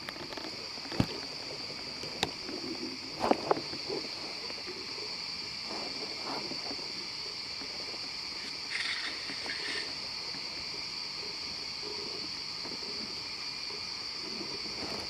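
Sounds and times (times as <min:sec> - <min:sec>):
insects shrilling: 0:00.0 - 0:15.0.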